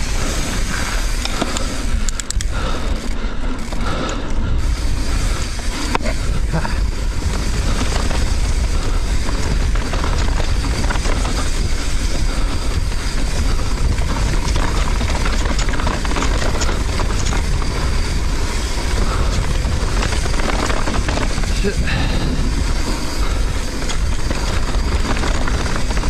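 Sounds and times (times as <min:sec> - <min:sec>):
bike rattling: 0:00.0 - 0:26.0
wind on microphone: 0:00.0 - 0:26.0
tyres crunching over dirt: 0:05.0 - 0:26.0.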